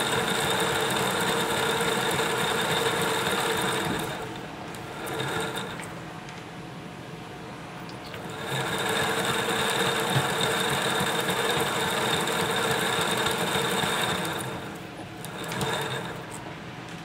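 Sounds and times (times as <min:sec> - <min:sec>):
winding machine whirring: 0:00.0 - 0:06.0, 0:08.1 - 0:16.5.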